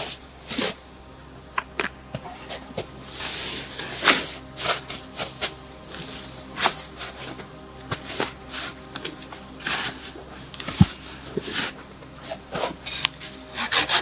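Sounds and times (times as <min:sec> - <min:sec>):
footsteps crunching in snow: 0:00.0 - 0:14.0.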